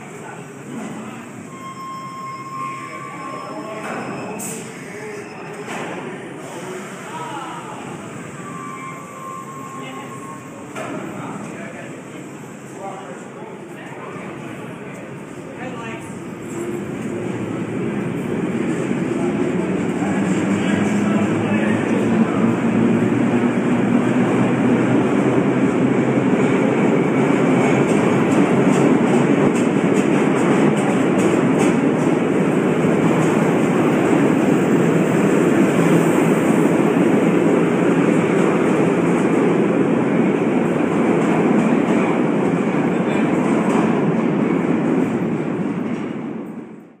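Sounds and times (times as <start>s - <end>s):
subway train wheels rumbling on rail: 0.0s - 47.0s.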